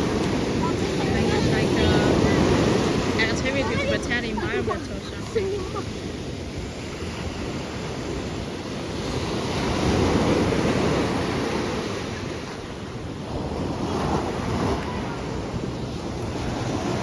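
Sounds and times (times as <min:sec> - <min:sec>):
sea surf washing onto beach: 0:00.0 - 0:17.0
wind on microphone: 0:00.0 - 0:17.0.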